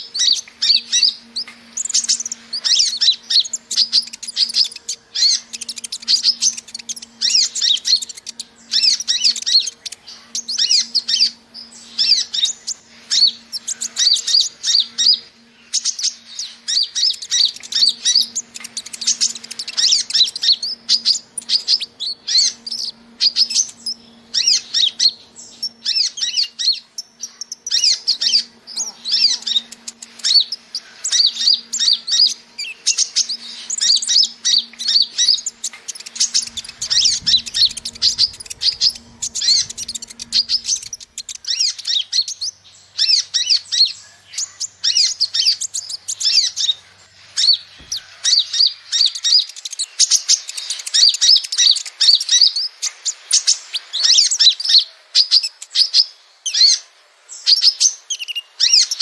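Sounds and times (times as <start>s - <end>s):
sunbird high thin chirps: 0.0s - 56.8s
faint steady hum: 0.0s - 59.0s.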